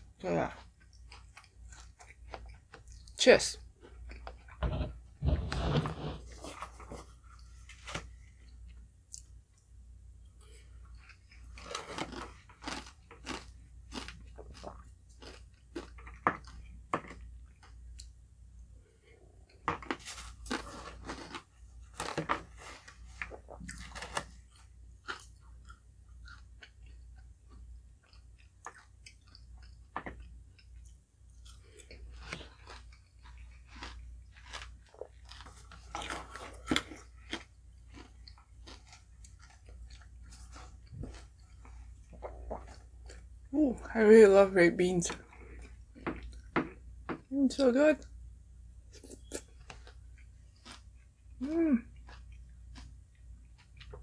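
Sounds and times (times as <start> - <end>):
quiet chewing: 0.0 - 43.9, 45.0 - 47.3, 48.9 - 54.0.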